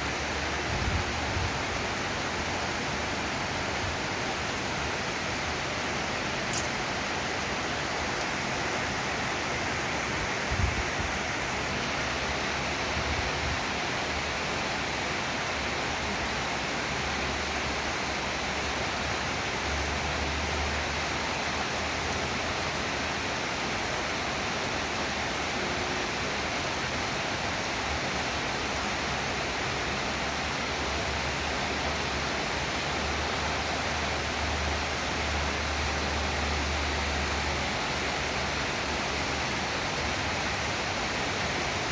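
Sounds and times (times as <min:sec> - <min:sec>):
heavy rain hissing: 0:00.0 - 0:41.9.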